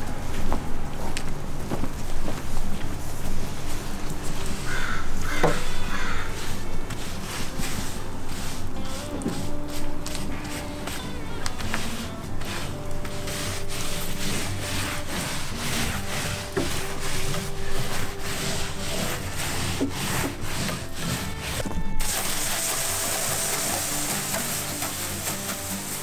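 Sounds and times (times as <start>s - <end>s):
cloth rag wiping wood: 3.2s - 21.7s, 22.6s - 26.0s
garden hose spraying water: 3.6s - 26.0s.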